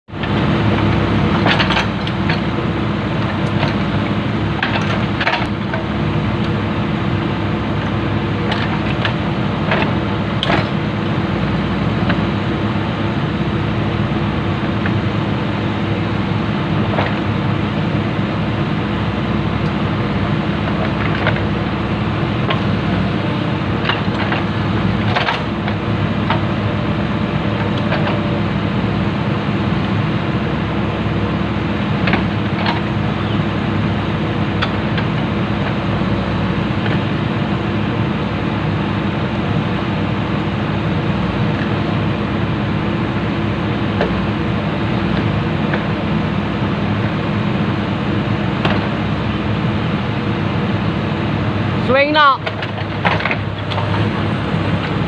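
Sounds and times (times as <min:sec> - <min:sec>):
excavator diesel engine running: 0:00.1 - 0:55.0.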